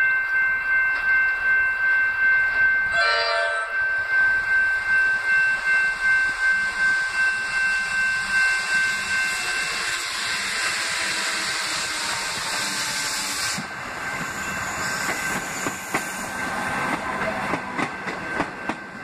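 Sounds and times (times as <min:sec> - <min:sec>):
level crossing warning bell: 0:00.0 - 0:19.0
electric train rushing: 0:02.4 - 0:19.0.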